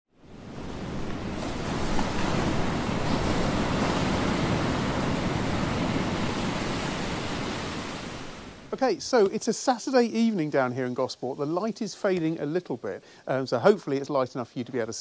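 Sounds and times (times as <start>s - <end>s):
rushing water noise: 0.2s - 15.0s.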